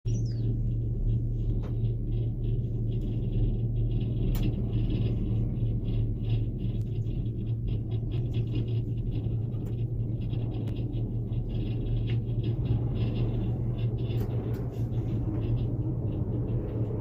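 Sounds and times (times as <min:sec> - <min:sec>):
cable car mechanical rumble: 0:00.0 - 0:17.0.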